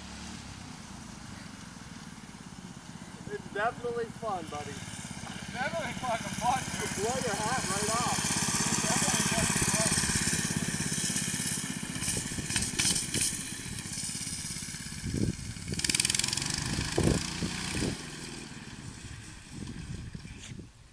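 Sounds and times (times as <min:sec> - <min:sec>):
go-kart engine driving off: 0:00.0 - 0:20.5.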